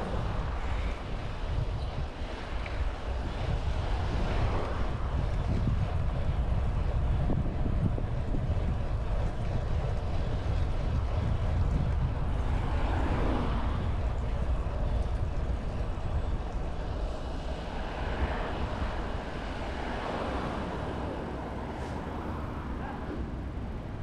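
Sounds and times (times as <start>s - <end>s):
passing road traffic: 0.0s - 24.0s
wind rumbling on microphone: 0.0s - 24.0s.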